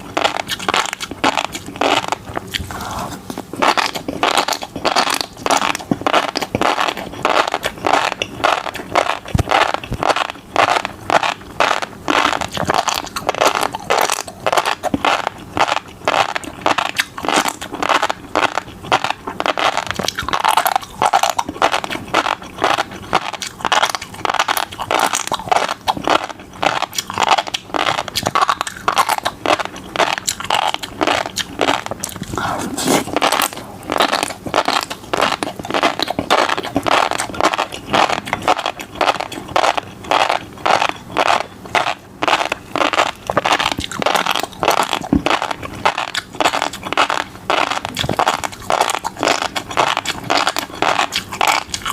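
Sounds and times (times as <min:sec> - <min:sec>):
fish eggs popping while chewing: 0:00.0 - 0:51.9.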